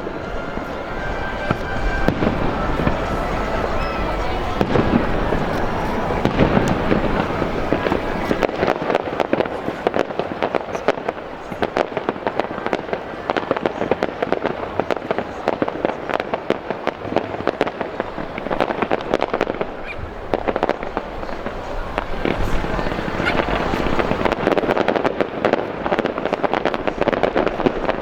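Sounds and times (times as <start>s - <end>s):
fireworks crackle: 0.0s - 28.0s
fireworks cracks and bangs: 0.0s - 28.0s.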